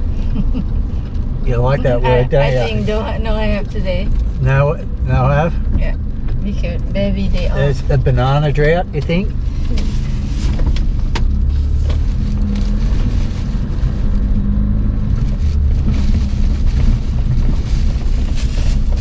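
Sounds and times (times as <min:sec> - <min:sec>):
car interior engine and tyre rumble: 0:00.0 - 0:19.0.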